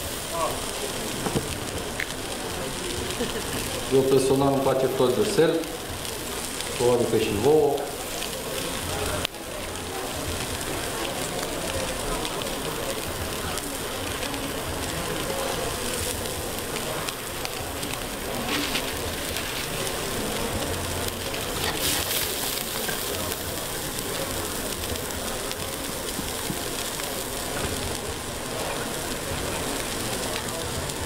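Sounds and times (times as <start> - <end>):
burger patty sizzling: 0.0 - 31.0
fat crackling: 0.0 - 31.0.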